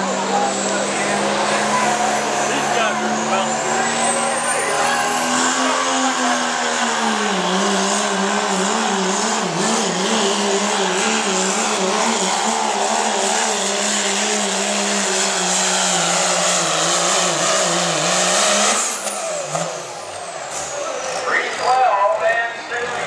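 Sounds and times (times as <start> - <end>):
diesel truck engine at high revs: 0.0 - 23.0
loud rush of noise: 0.0 - 23.0.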